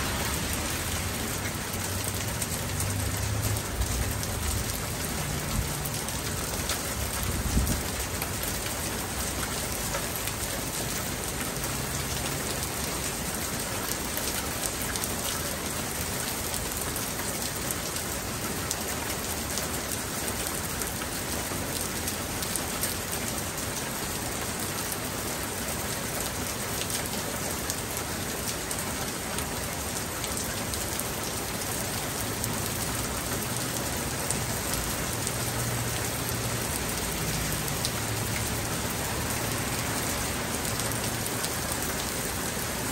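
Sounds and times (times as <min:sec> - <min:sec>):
raindrops ticking on surfaces: 0:00.0 - 0:42.9
steady rain hiss: 0:00.0 - 0:42.9.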